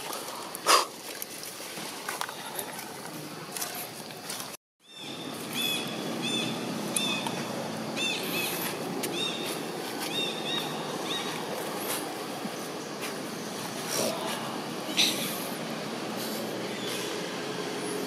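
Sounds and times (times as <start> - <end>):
background hiss and rumble: 2.9 - 18.0.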